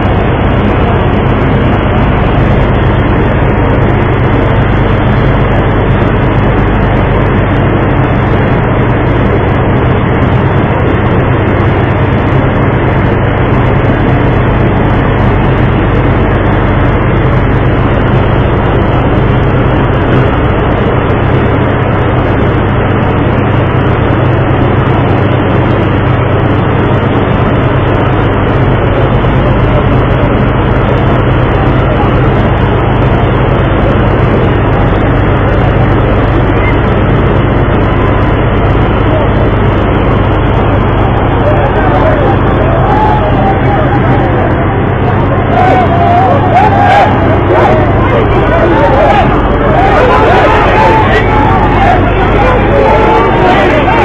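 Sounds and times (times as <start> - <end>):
even rushing noise: 0.0 - 54.0
loud engine drone: 0.0 - 54.0.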